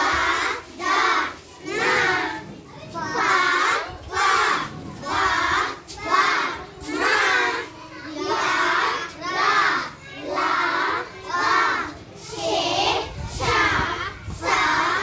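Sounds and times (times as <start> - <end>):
children chanting in unison: 0.0 - 15.0.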